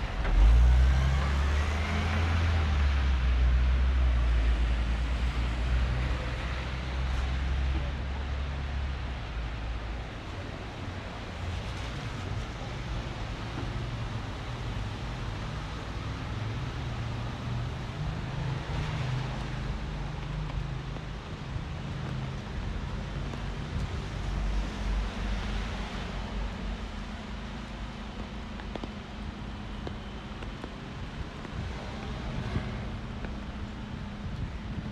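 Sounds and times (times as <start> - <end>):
vehicle engine rumble: 0.0 - 34.9.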